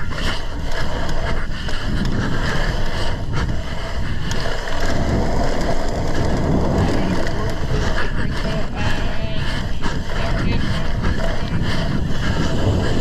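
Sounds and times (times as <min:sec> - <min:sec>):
bike tyres rolling over dirt: 0:00.0 - 0:13.0
wind on microphone: 0:00.0 - 0:13.0.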